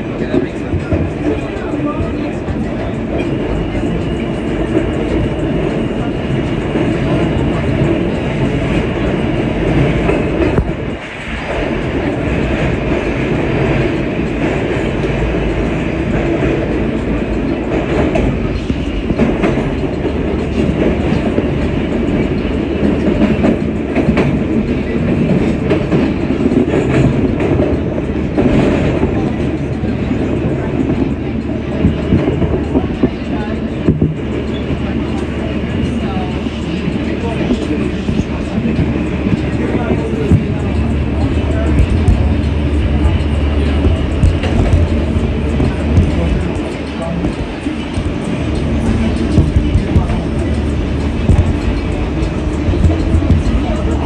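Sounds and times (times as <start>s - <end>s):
clickety-clack over rail joints: 0.0s - 54.0s
subway car wheels rumbling on rail: 0.0s - 54.0s.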